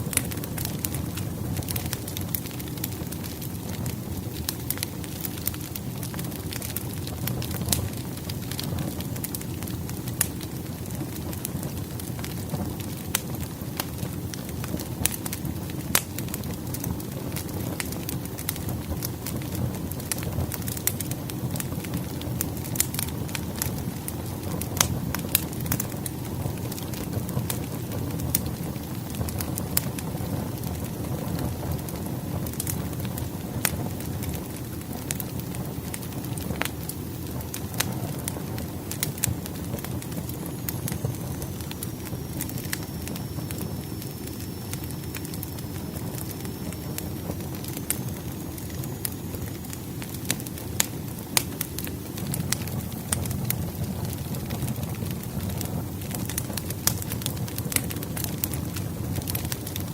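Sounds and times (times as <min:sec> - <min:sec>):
firewood crackling and popping: 0:00.0 - 0:59.9.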